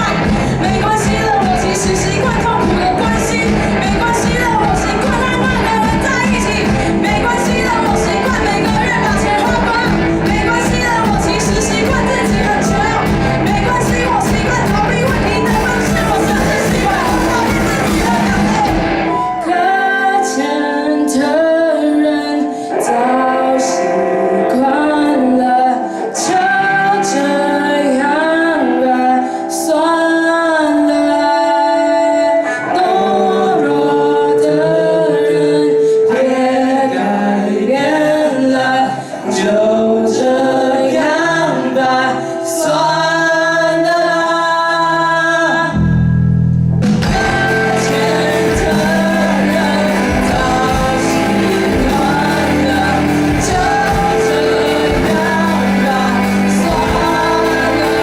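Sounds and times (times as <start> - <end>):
group singing in harmony: 0.0 - 45.8, 47.0 - 58.0
band playing pop song: 0.0 - 58.0.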